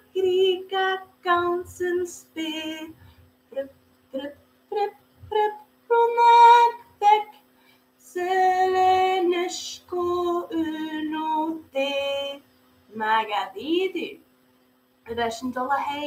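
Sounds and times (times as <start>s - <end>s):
woman singing unaccompanied: 0.0s - 7.4s, 8.0s - 14.2s, 15.0s - 16.0s
faint electrical hum: 0.0s - 16.0s.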